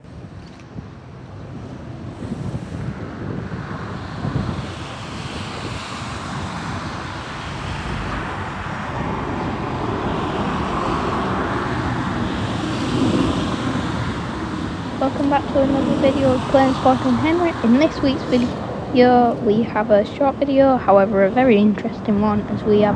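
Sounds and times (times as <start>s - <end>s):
wind buffeting the microphone: 0.0s - 22.9s
turboprop aircraft flying by: 0.2s - 22.9s.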